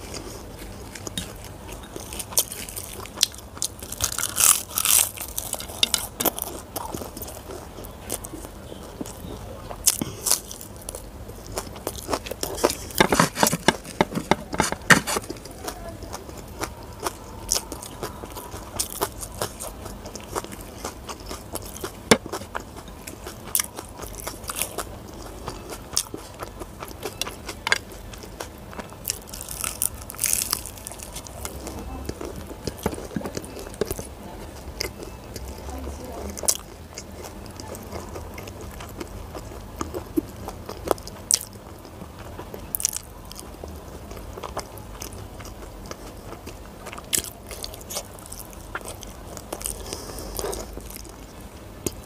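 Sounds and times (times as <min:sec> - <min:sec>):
person chewing with mouth smacks: 0:00.0 - 0:35.7, 0:36.4 - 0:52.0.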